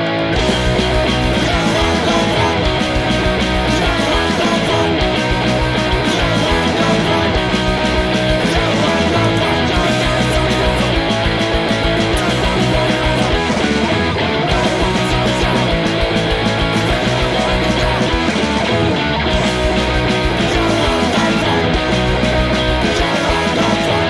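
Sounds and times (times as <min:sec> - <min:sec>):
loud punk rock music: 0:00.0 - 0:24.0.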